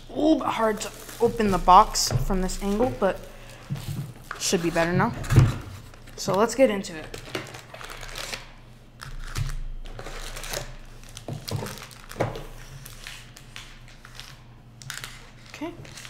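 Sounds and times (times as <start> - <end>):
foil packs crinkling: 0.3 - 16.0.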